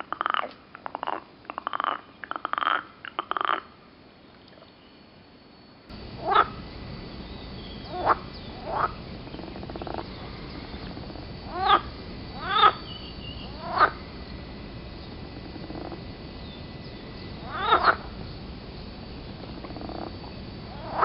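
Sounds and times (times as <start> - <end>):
background hiss: 0.0 - 21.0
frogs croaking: 0.0 - 21.0.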